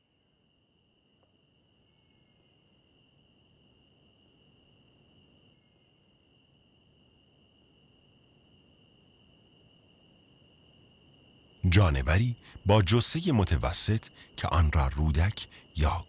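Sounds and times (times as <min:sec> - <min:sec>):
cricket trilling: 0:00.0 - 0:16.0
insect chirping: 0:00.0 - 0:16.0.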